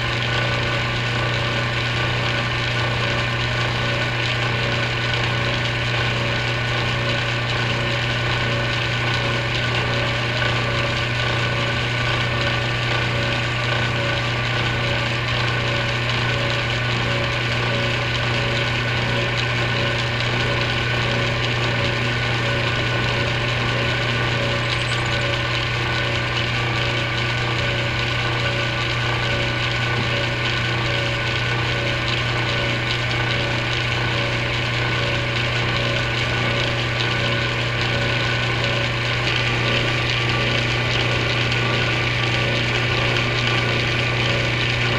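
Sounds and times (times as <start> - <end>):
lathe motor hum: 0.0 - 44.9.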